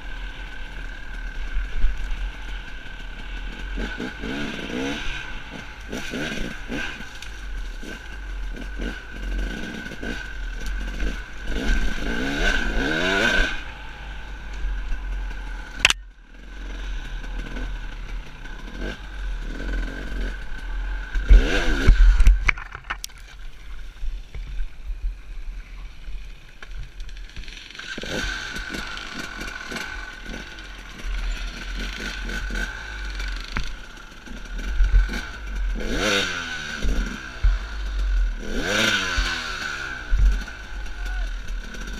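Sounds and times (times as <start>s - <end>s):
dirt bike engine revving: 0.0s - 22.7s, 26.2s - 41.9s.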